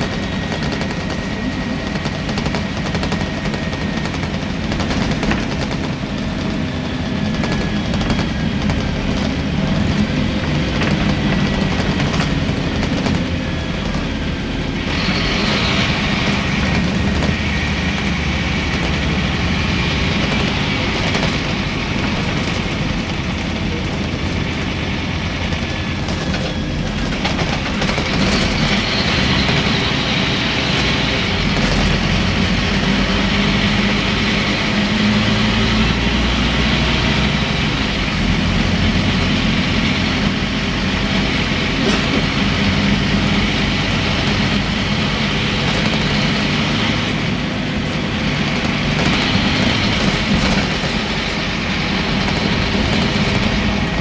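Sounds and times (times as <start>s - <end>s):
bus diesel engine: 0.0s - 54.0s
road noise: 0.0s - 54.0s.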